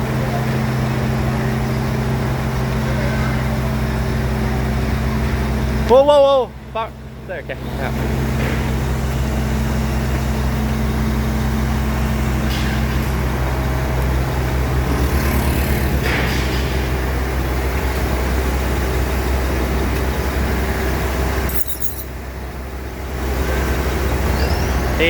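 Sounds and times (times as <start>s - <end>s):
heavy diesel engines running: 0.0s - 25.0s.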